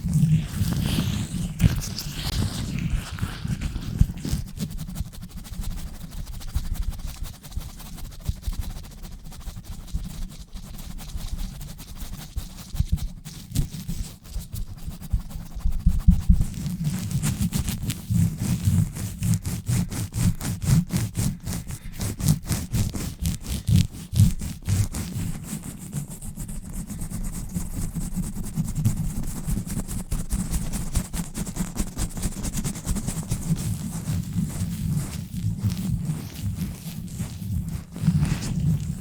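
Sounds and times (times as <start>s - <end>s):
gloved hands scratching microphone: 0.0s - 5.8s, 13.3s - 39.0s.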